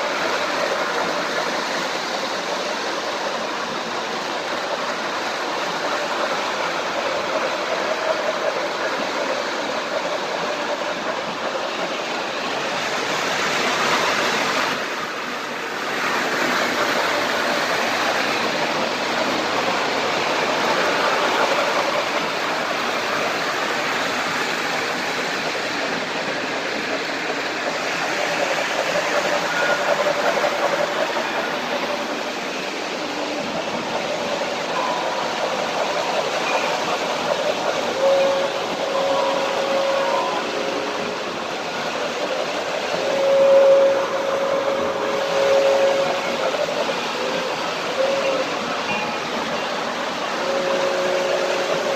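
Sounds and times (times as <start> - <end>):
model trains running on track: 0.0 - 51.9.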